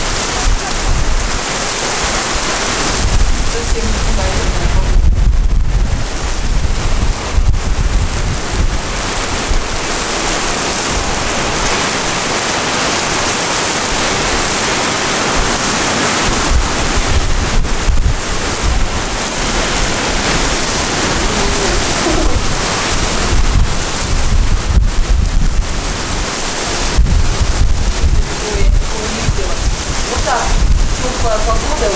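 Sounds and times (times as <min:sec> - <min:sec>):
heavy rain downpour: 0:00.0 - 0:31.9
wind gusts buffeting microphone: 0:00.0 - 0:31.9.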